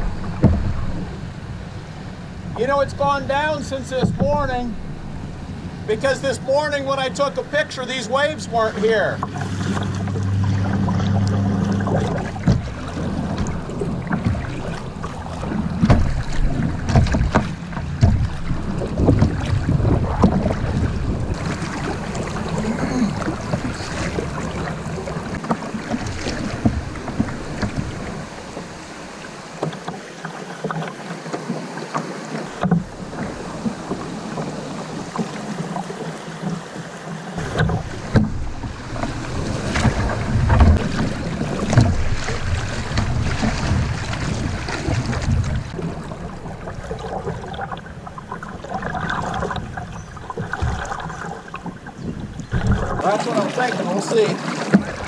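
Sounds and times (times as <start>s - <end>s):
wind rumbling on microphone: 0.0s - 7.7s, 8.4s - 29.8s, 32.4s - 53.1s
water splashing around kayak: 0.0s - 55.0s.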